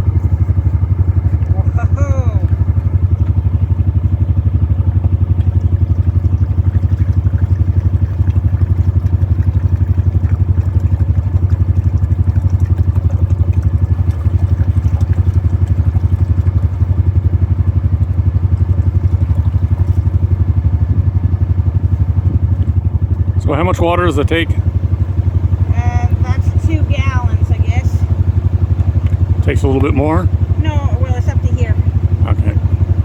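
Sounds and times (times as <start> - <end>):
sawmill engine idling: 0.0 - 33.0.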